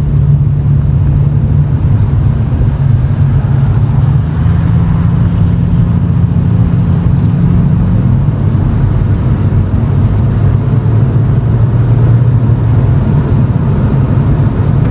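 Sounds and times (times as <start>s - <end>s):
car exhaust low drone: 0.0s - 14.9s.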